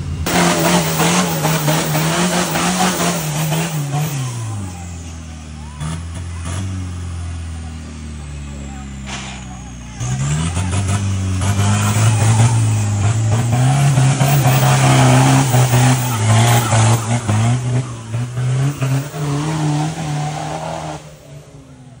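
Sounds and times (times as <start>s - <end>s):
engine revving under load: 0.0s - 22.0s.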